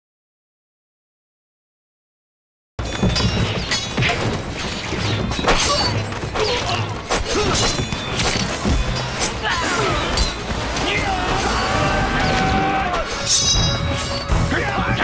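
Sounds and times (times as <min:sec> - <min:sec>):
background music: 0:02.8 - 0:15.0.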